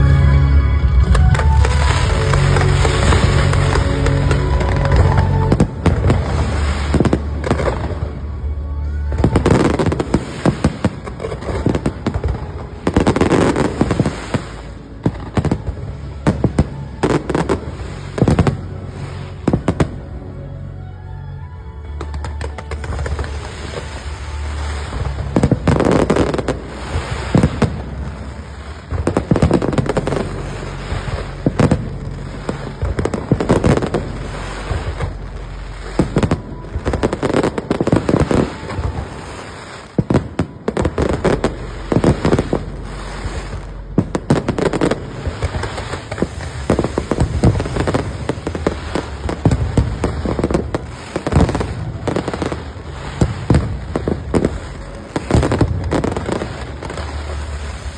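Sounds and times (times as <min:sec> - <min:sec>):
fireworks bangs and crackles: 0:00.0 - 0:20.4, 0:22.0 - 0:57.9.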